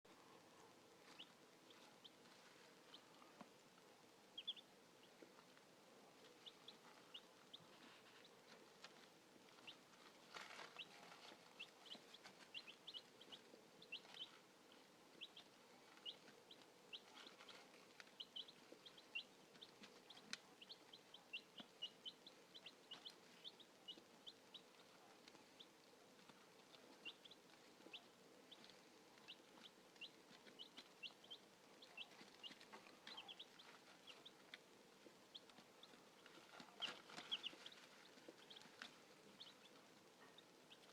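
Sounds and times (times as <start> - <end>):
chicks peeping: 0.1 - 40.9.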